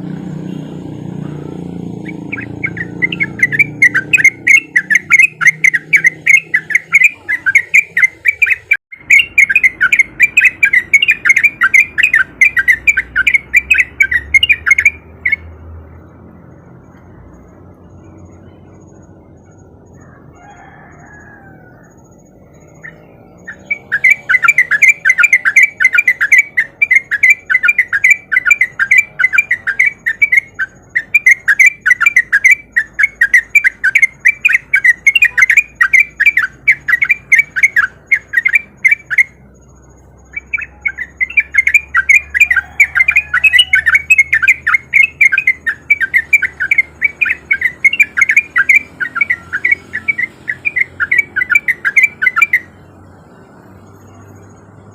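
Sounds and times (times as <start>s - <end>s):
bird chattering song: 0.1s - 20.7s, 21.8s - 54.9s.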